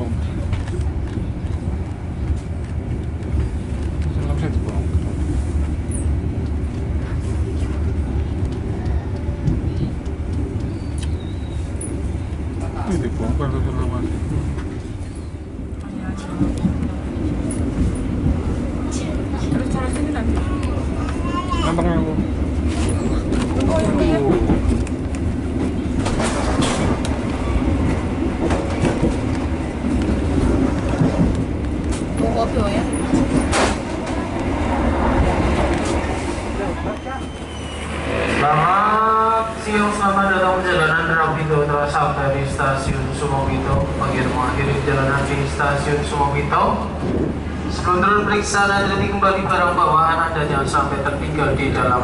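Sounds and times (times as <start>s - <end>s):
train rumbling along track: 0.0s - 52.0s.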